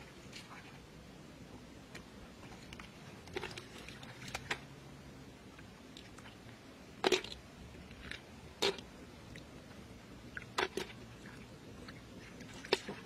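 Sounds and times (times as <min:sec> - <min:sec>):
small sharp clicks and wet sounds: 0:00.0 - 0:00.9, 0:01.8 - 0:04.8, 0:05.4 - 0:13.0
low background hiss: 0:00.0 - 0:13.0.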